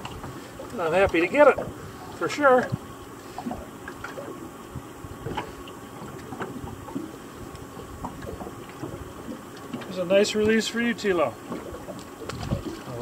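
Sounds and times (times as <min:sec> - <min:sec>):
water lapping against boat: 0:00.0 - 0:13.0.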